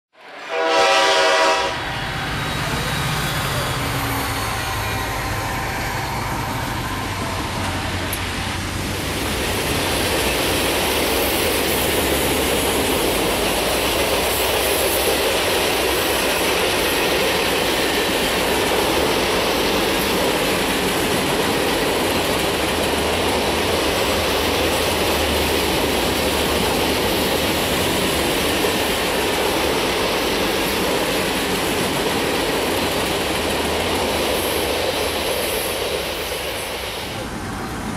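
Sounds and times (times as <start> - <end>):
freight train rumbling past: 0.2 - 37.9.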